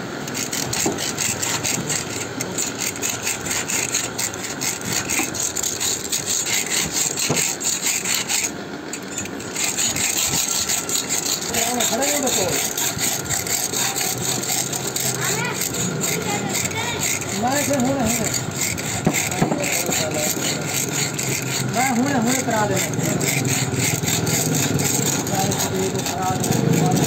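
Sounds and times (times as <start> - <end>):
hand tool scraping a surface: 0.2 - 27.0.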